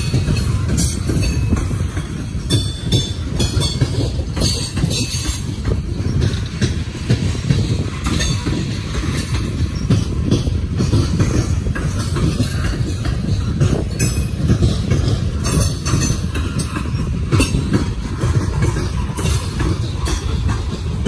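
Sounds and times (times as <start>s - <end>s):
train wheels rumbling on rail: 0.0s - 21.0s
wheel clicks and clacks: 0.0s - 21.0s.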